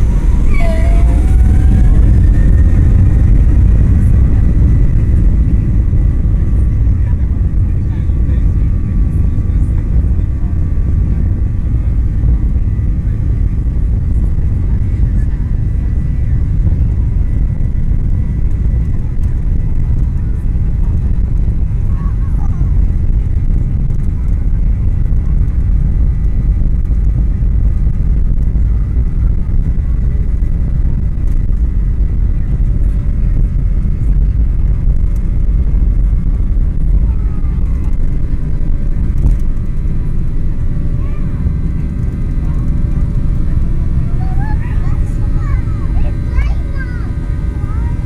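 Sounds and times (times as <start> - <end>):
jet cabin low rumble: 0.0 - 48.0.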